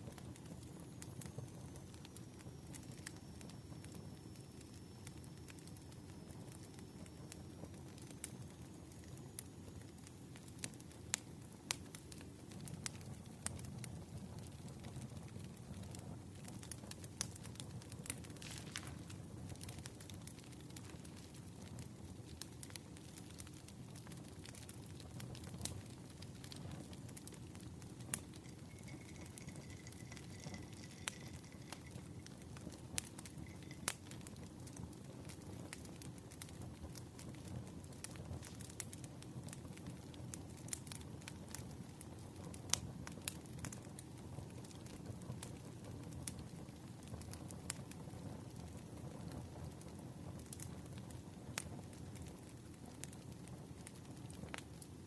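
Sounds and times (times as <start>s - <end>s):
firewood crackling: 0.0s - 55.0s
wood fire popping: 0.0s - 55.0s.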